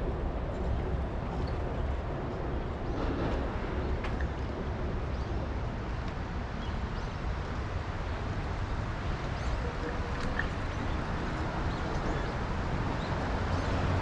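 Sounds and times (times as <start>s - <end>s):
traffic: 0.0s - 14.0s.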